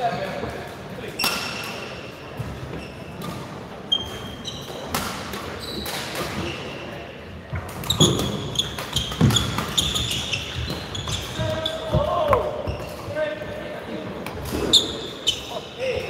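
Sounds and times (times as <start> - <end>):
shoes squeaking on hall floor: 0.0 - 16.0.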